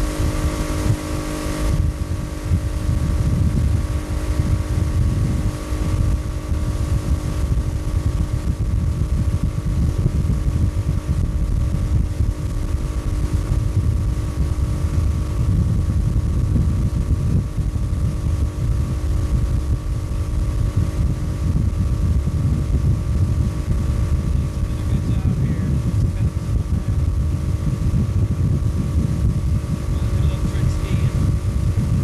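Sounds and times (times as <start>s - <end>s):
outboard motor running: 0.0s - 32.0s
wind buffeting microphone: 0.0s - 32.0s.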